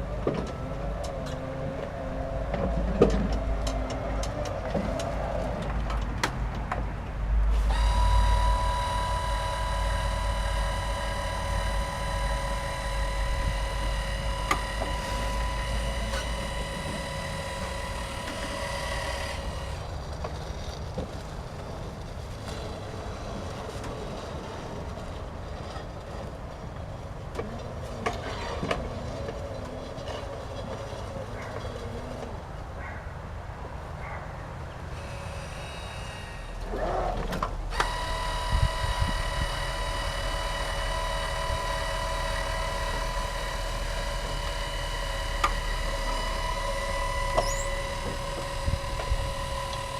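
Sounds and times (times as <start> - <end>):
electric motor whine and rumble: 0.0 - 6.3, 7.0 - 32.6, 35.0 - 49.9.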